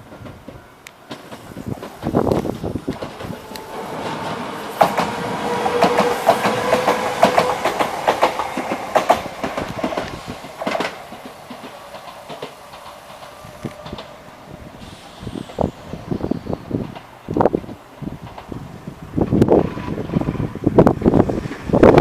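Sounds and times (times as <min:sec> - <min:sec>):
electric train passing: 0:00.0 - 0:22.0
train wheels clicking over rail joints: 0:00.0 - 0:22.0.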